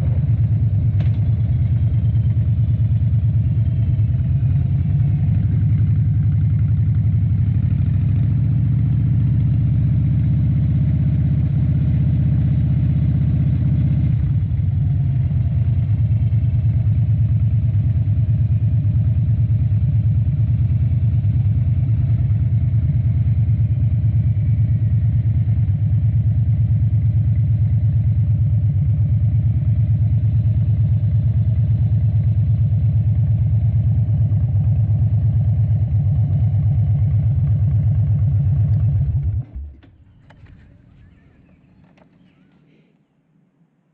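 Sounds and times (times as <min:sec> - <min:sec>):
motorcycle engine running at low revs: 0:00.0 - 0:42.4.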